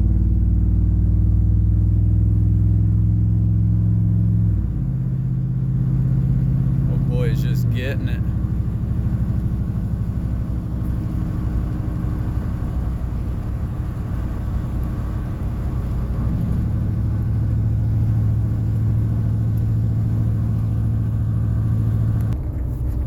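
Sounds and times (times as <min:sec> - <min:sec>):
car engine and road noise droning: 0:00.0 - 0:23.0.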